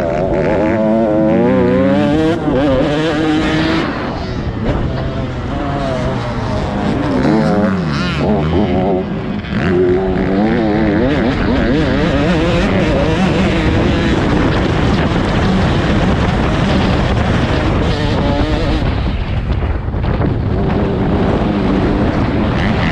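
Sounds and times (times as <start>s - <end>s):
motocross bike engines revving: 0.0s - 19.5s, 20.1s - 22.9s.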